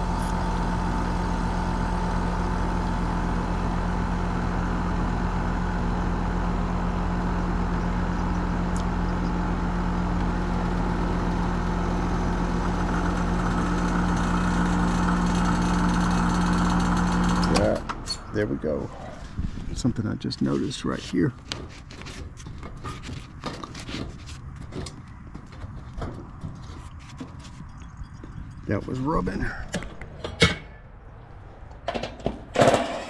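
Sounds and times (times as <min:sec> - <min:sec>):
heat pump hum: 0:00.0 - 0:32.8.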